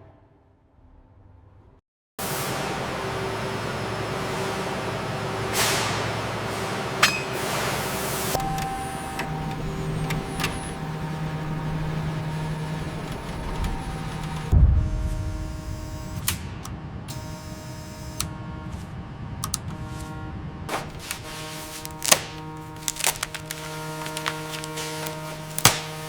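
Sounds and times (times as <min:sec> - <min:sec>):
heavy machinery humming: 0:02.2 - 0:26.0.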